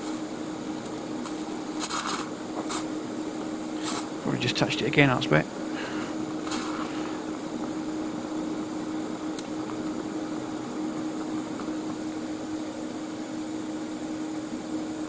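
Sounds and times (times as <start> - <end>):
welding set humming and hissing: 0.0 - 15.0.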